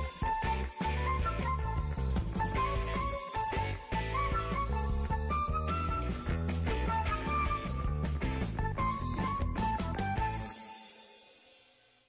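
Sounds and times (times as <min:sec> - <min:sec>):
instrumental music with steady beat: 0:00.0 - 0:11.9.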